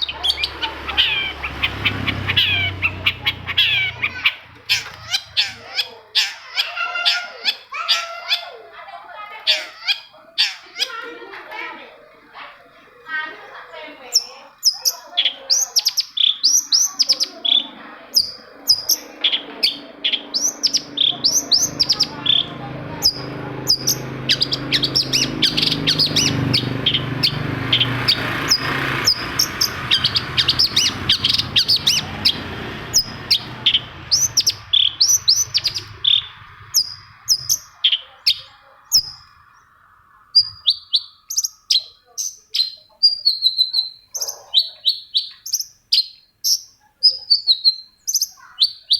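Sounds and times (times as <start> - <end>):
bird singing sharp chirps: 0.0 - 8.5, 13.6 - 48.9.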